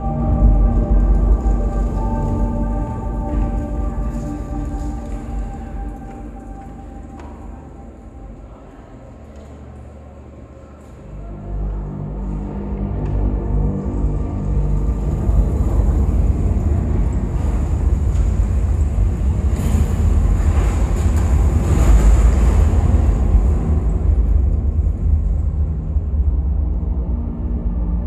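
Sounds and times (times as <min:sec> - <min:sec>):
deep rumbling: 0:00.0 - 0:28.0.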